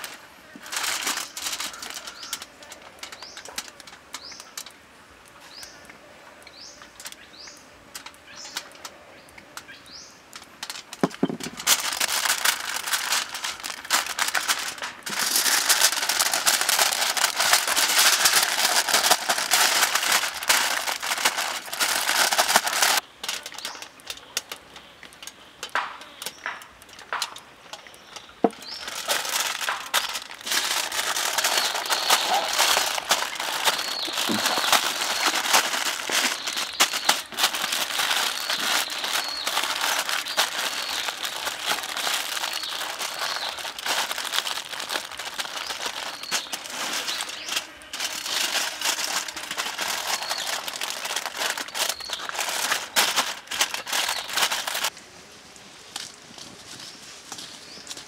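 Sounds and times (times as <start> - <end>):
aluminium foil crinkling: 0.0 - 4.8, 6.8 - 7.3, 7.9 - 9.0, 10.3 - 55.0.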